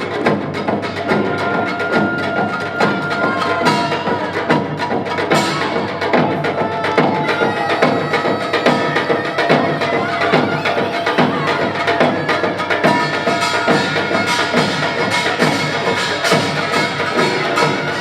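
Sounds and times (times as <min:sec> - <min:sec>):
percussion ensemble drums and gongs: 0:00.0 - 0:18.0.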